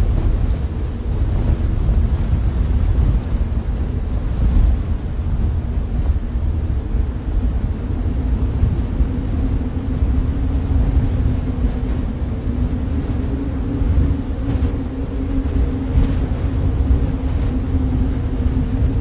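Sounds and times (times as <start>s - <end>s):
deep rush of wind: 0.0s - 19.0s.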